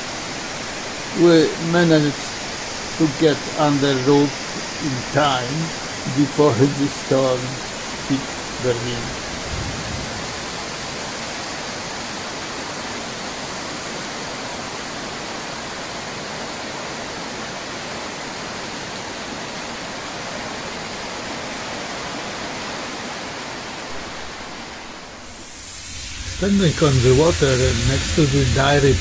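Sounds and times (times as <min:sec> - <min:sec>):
torrential rain pouring: 0:00.0 - 0:29.0.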